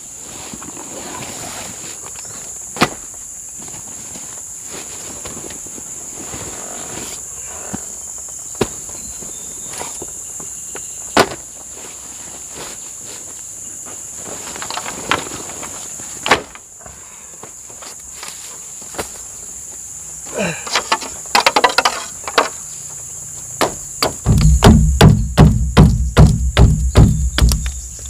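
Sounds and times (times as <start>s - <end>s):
insects droning high-pitched: 0.0s - 28.0s.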